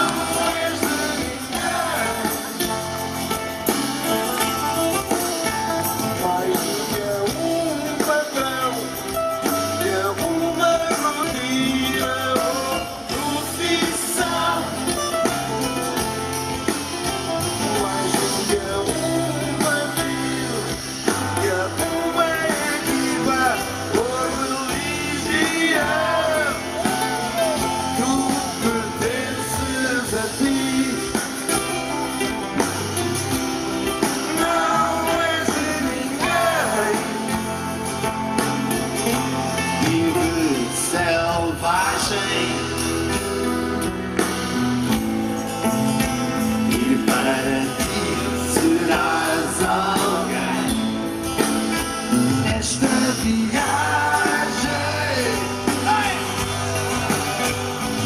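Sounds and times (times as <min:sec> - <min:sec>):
person singing: 0:00.0 - 0:03.0, 0:06.0 - 0:15.8, 0:16.8 - 0:31.9, 0:34.0 - 0:37.7, 0:38.7 - 0:43.1, 0:46.4 - 0:58.0
bass guitar: 0:00.0 - 0:58.0
drums: 0:00.0 - 0:58.0
strummed acoustic guitars: 0:00.0 - 0:58.0.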